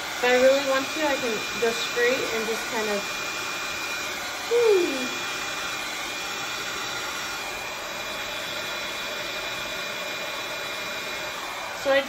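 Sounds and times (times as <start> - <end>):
heat gun blowing hiss: 0.0 - 12.0.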